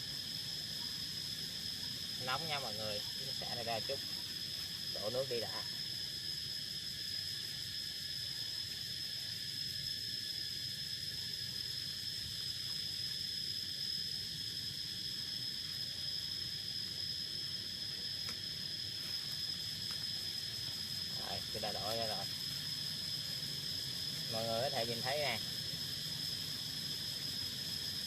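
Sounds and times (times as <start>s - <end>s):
high-pitched insect chorus: 0.0s - 28.0s.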